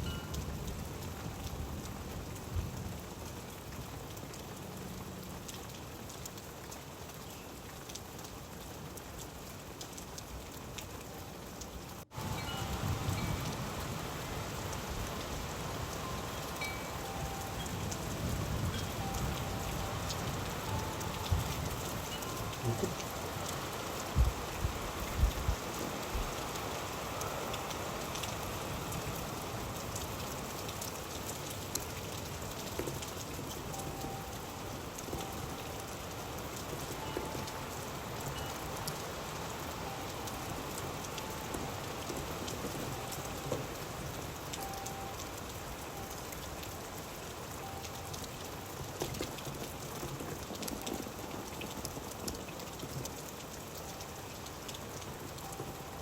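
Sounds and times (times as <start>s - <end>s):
rain pattering on surfaces: 0.0s - 56.0s.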